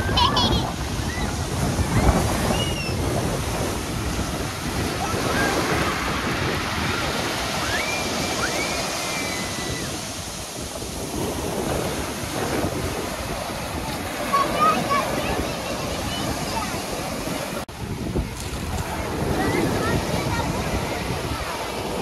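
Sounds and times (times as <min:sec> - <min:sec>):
waves breaking on pebble beach: 0:00.0 - 0:22.0.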